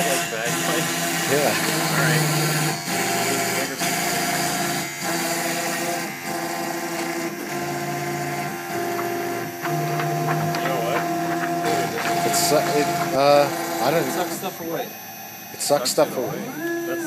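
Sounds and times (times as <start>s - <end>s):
stepper motors droning: 0.0s - 17.0s.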